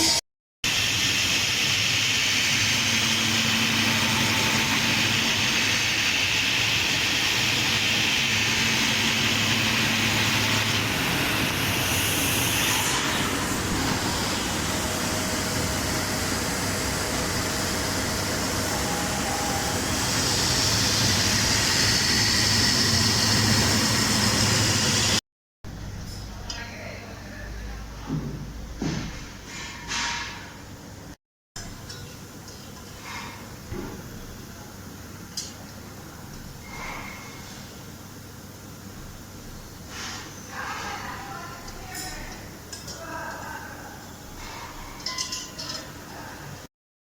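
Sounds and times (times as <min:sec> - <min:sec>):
factory machinery hum and hiss: 0:00.0 - 0:26.6, 0:27.5 - 0:46.7.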